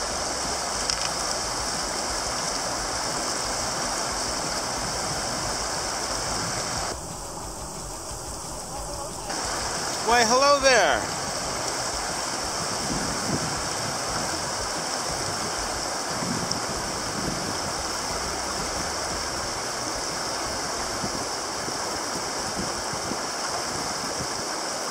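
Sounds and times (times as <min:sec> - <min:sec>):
river rapids rushing: 0:00.0 - 0:24.9.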